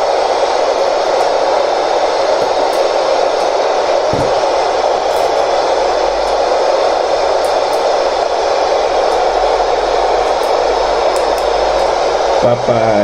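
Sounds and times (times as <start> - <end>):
radio static rush: 0.0 - 13.0.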